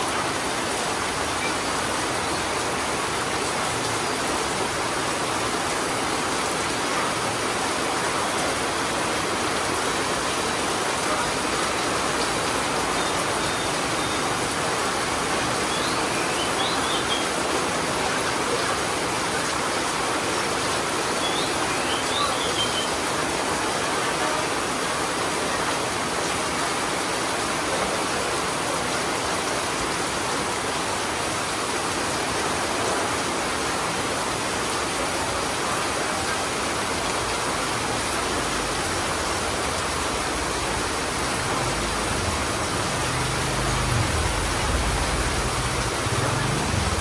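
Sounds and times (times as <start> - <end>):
heavy rain on concrete: 0.0 - 47.0.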